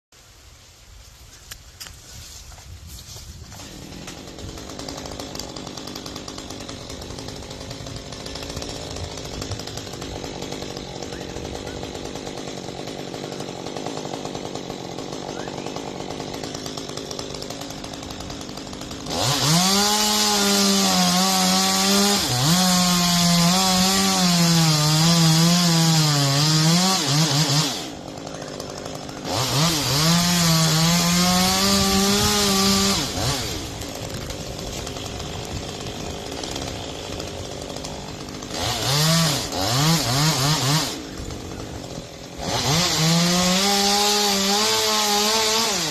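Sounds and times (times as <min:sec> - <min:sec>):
chainsaw cutting wood: 0:01.4 - 0:45.9.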